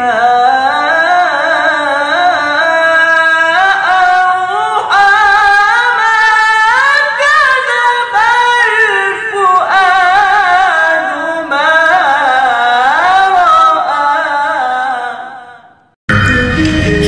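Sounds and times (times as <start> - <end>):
man singing unaccompanied: 0.0 - 15.9.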